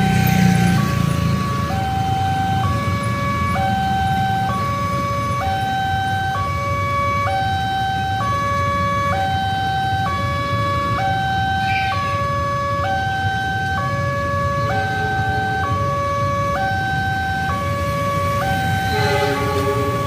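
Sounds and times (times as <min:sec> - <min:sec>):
two-tone crossing alarm: 0:00.0 - 0:20.0
vehicles idling: 0:00.0 - 0:20.0.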